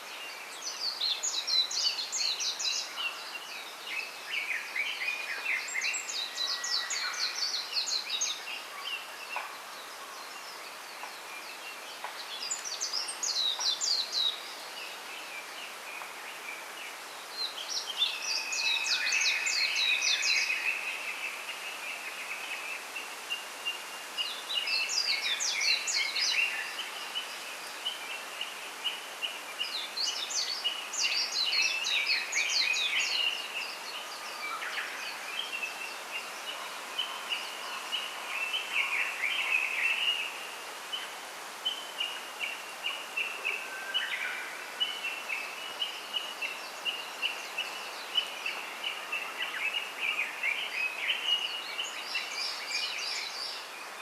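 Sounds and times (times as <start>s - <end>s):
outdoor hiss: 0.0s - 54.0s
songbirds chirping: 0.0s - 54.0s.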